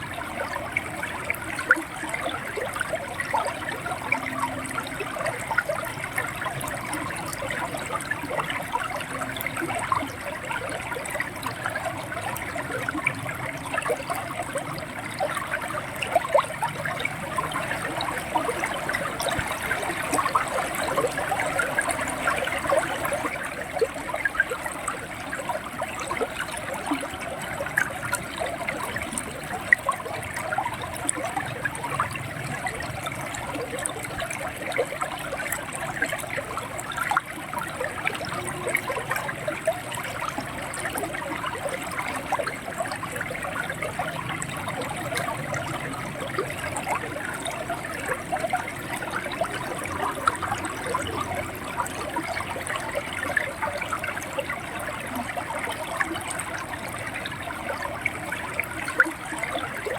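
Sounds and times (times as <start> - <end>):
river water gurgling over stones: 0.0 - 59.9.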